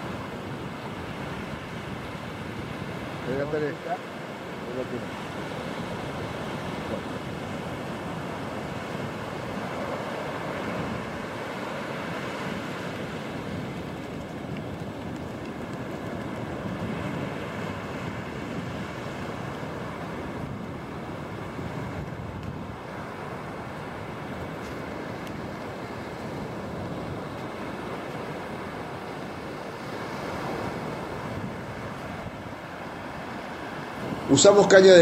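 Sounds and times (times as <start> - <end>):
sea waves breaking on beach: 0.0 - 35.0.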